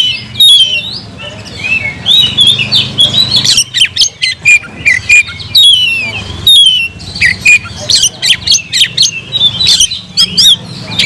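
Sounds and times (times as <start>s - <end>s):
bird singing whistled notes: 0.0s - 11.0s
harsh bird calls: 0.0s - 11.0s.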